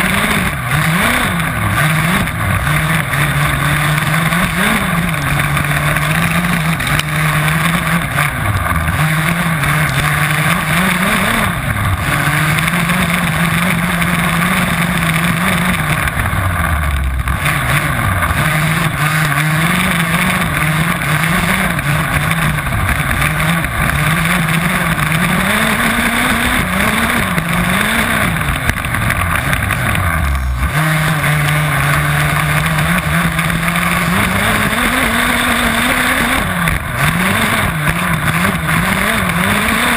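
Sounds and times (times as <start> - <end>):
model car two-stroke engine revving: 0.0 - 39.9.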